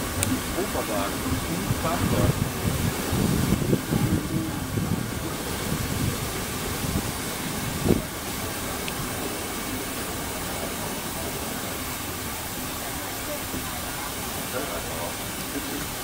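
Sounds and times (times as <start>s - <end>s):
rushing air: 0.0s - 16.0s
train rumbling: 0.0s - 16.0s.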